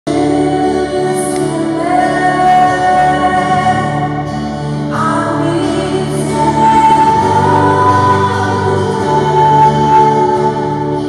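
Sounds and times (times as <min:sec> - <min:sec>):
keyboard: 0:00.0 - 0:11.0
acoustic guitar: 0:00.1 - 0:11.0
woman singing into microphone: 0:00.1 - 0:11.0.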